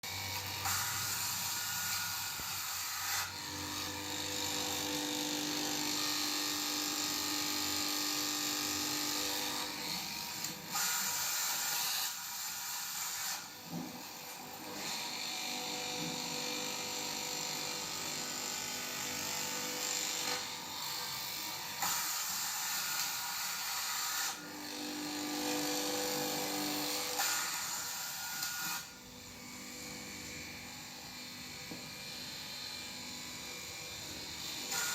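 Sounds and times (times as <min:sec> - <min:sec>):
electric fabric cutter running: 0:00.0 - 0:34.9.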